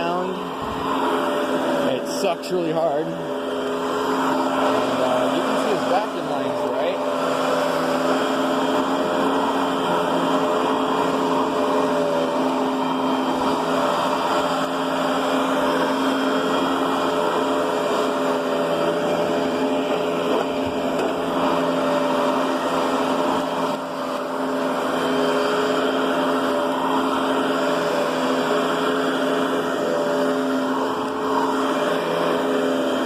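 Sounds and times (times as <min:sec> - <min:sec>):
vacuum cleaner running on carpet: 0:00.0 - 0:33.0.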